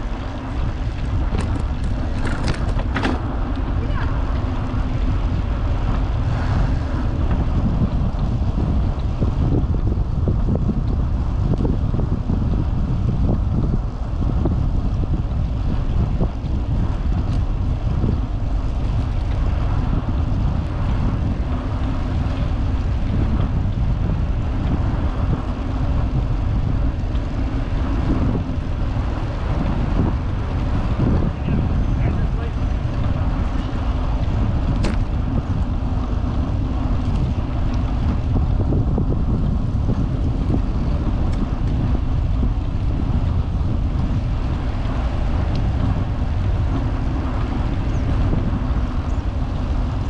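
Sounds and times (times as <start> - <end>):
bicycle riding noise: 0.0 - 50.0
wind buffeting microphone: 0.0 - 50.0.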